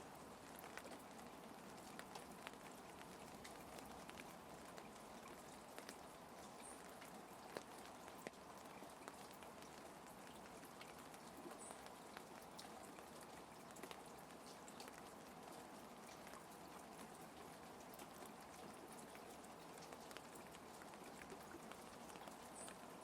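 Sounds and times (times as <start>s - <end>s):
faint steady rain: 0.0s - 23.0s
raindrops ticking: 0.0s - 23.0s.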